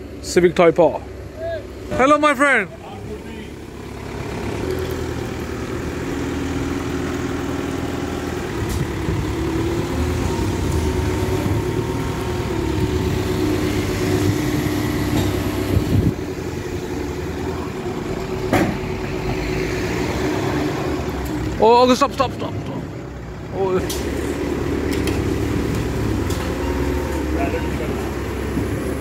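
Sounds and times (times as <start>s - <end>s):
forklift engine running: 0.0s - 29.0s.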